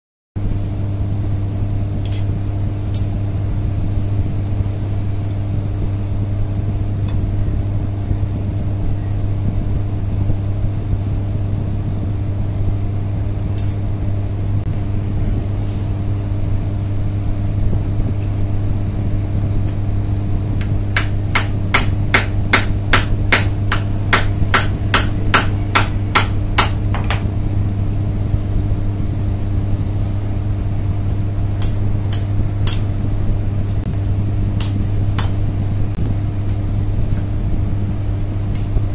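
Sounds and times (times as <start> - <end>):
steady low hum: 0.4 - 38.9.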